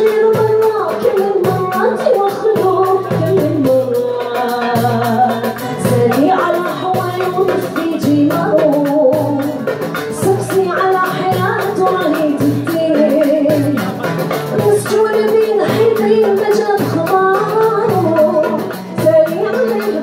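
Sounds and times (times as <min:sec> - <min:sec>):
acoustic guitar: 0:00.0 - 0:20.0
mandole playing: 0:00.0 - 0:20.0
person singing: 0:00.0 - 0:20.0.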